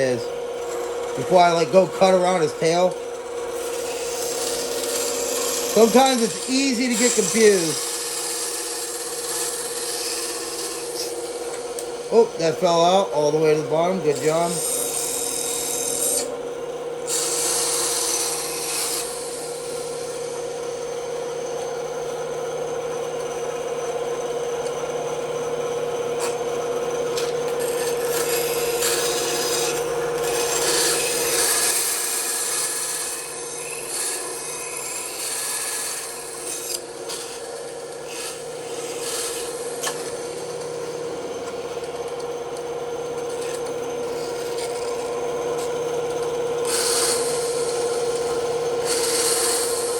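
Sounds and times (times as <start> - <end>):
saw blade cutting wood: 0.0 - 16.4, 17.0 - 20.4, 27.1 - 49.9
bandsaw humming: 0.0 - 49.9.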